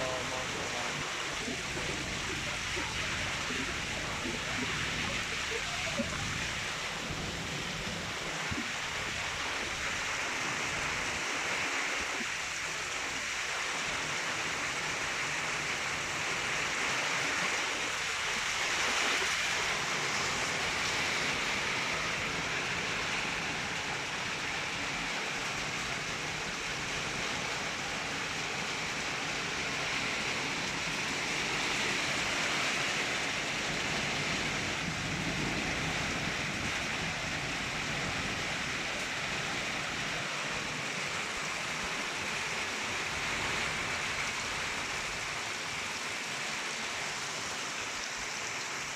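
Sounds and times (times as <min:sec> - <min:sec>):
hail and heavy rain: 0:00.0 - 0:48.9.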